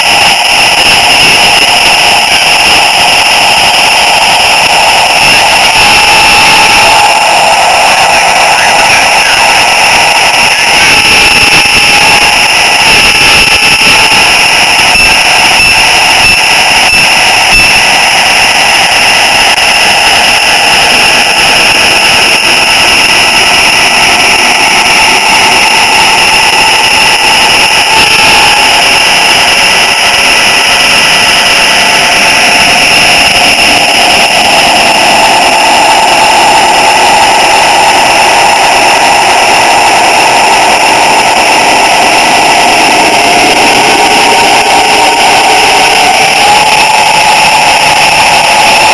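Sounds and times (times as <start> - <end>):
high-pitched tones: 0.0 - 48.9
model train motor whine: 0.0 - 48.9.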